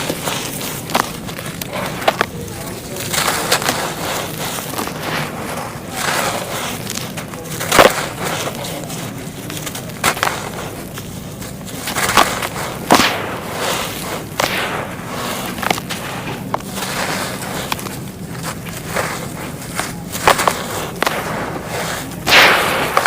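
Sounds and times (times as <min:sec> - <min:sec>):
clay pieces cracking: 0:00.0 - 0:23.0
dry clay crumbling: 0:00.0 - 0:23.0.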